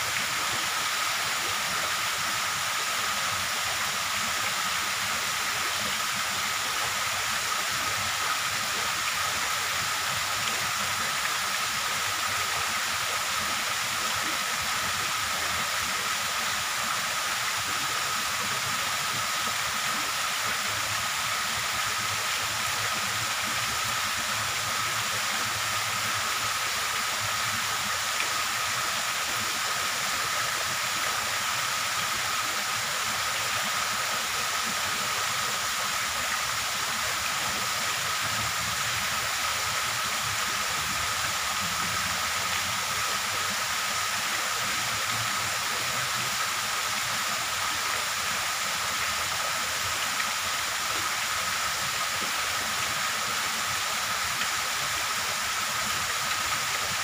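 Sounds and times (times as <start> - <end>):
steady rushing hiss: 0.0 - 57.0.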